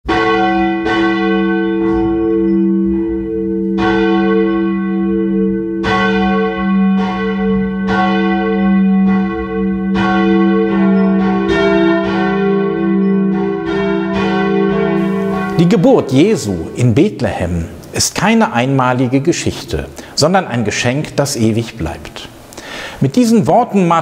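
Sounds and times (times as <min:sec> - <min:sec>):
church bells ringing: 0:00.1 - 0:20.4.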